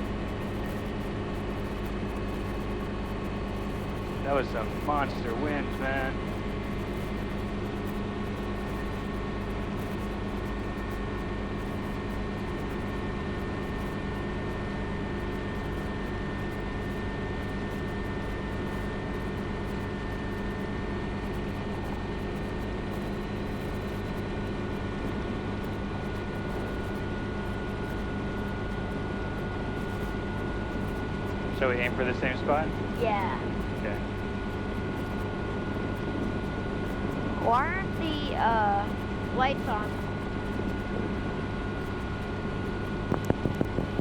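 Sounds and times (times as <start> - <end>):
helicopter engine and rotors: 0.0 - 44.0.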